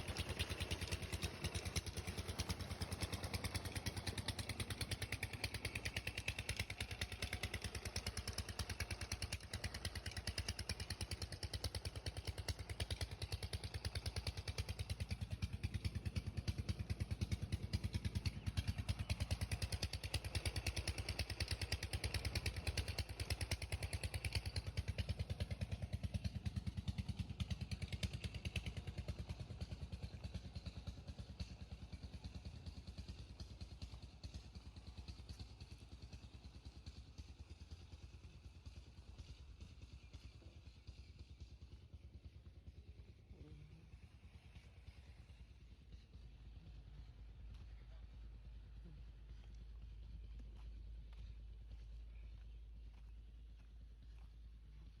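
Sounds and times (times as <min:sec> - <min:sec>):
diesel engine running: 0:00.0 - 0:37.5, 0:38.1 - 0:55.0.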